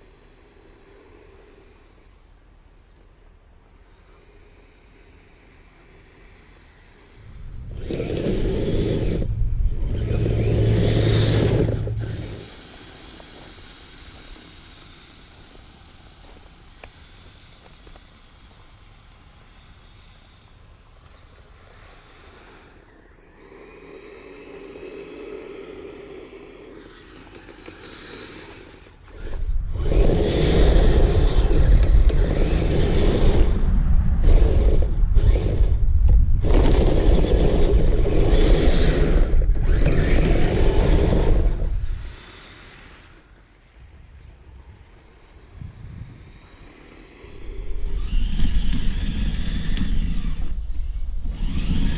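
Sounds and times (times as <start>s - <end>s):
faint motor whine: 0.0s - 51.9s.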